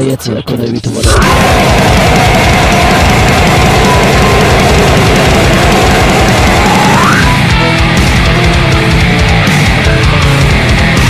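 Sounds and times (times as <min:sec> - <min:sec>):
distorted guitars: 0:01.0 - 0:11.0
fast drumming: 0:01.0 - 0:11.0
heavy metal band playing: 0:01.0 - 0:11.0.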